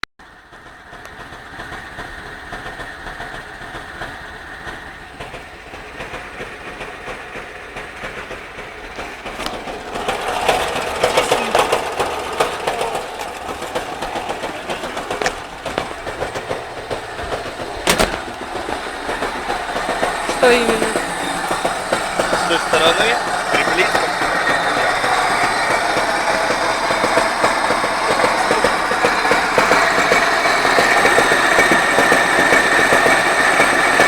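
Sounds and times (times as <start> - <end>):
petrol engine running with knock: 0.2 - 34.0.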